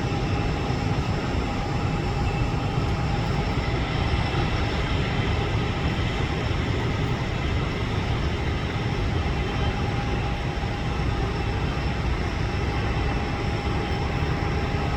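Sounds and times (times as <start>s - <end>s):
jet aircraft rumble: 0.0s - 14.9s.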